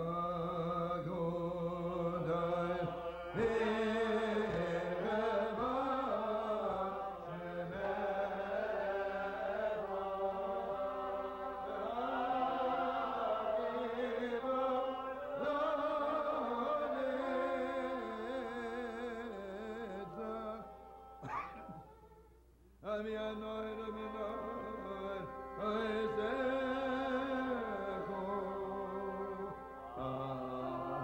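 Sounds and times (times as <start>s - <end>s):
man singing: 0.0s - 21.0s, 22.8s - 31.0s.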